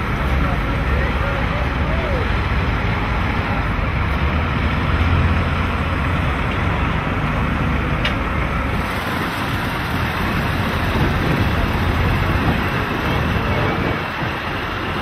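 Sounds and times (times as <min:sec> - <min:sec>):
truck diesel engines rumbling: 0:00.0 - 0:15.0.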